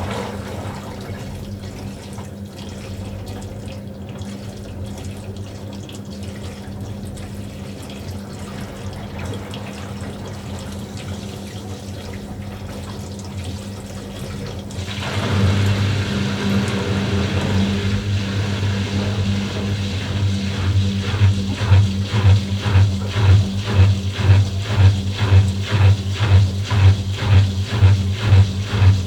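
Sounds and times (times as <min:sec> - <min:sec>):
washing machine motor hum: 0:00.0 - 0:29.0
water sloshing in drum: 0:00.0 - 0:29.0.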